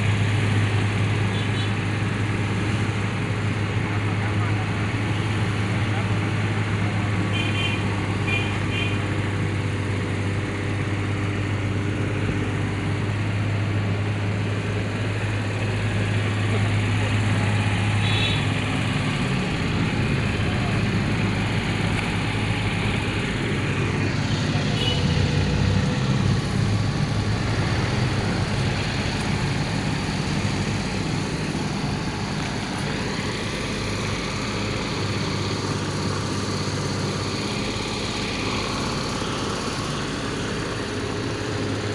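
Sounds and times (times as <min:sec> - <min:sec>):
diesel engine humming: 0:00.0 - 0:41.9.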